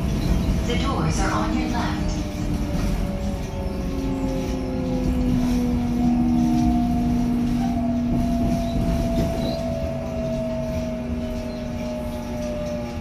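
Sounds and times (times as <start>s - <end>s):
train traction inverter whining: 0.0s - 13.0s
wheels rumbling on rail: 0.0s - 13.0s.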